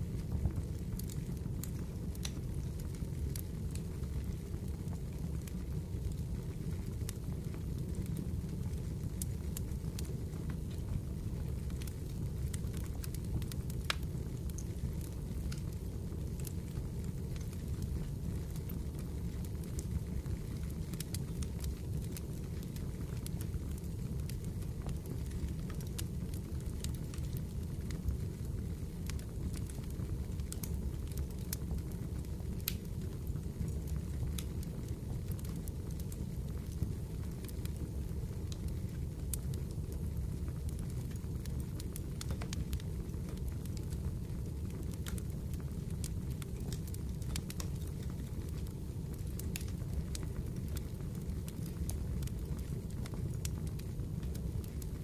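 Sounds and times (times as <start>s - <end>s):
fire crackling and popping: 0.0s - 55.0s
low rumble of burning: 0.0s - 55.0s.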